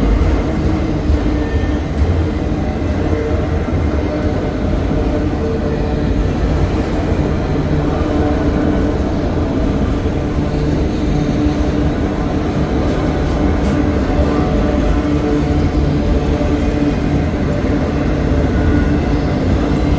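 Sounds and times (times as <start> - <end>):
constant hum: 0.0 - 19.9
train wheels rumbling on rail: 0.0 - 19.9.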